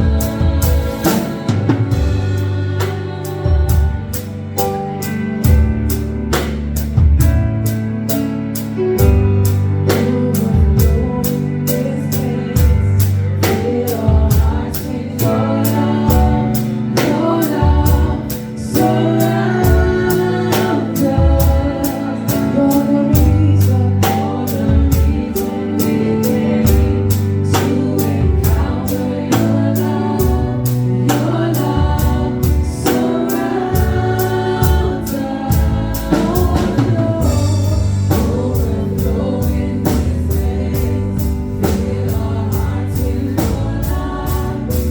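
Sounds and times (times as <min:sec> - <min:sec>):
band with drum kit and bass: 0:00.0 - 0:44.9
congregation singing worship music: 0:00.0 - 0:44.9.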